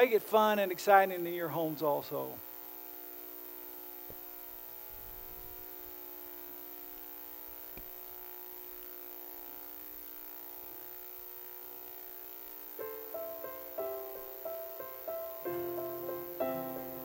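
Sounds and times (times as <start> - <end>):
steady hum of held tones: 0.0 - 17.0.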